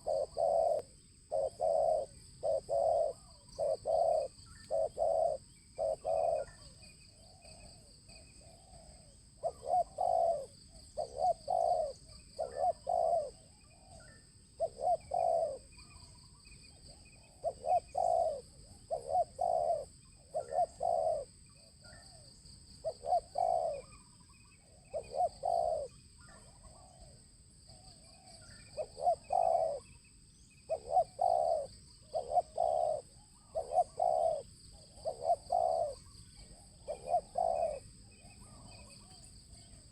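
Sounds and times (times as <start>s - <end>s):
dove cooing: 0.0s - 39.9s
faint bird chirps: 0.0s - 39.9s.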